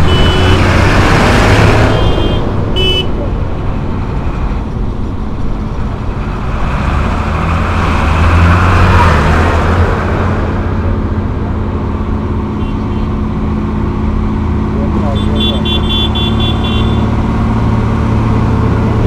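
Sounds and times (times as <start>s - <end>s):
diesel tractor engines running: 0.0s - 19.0s.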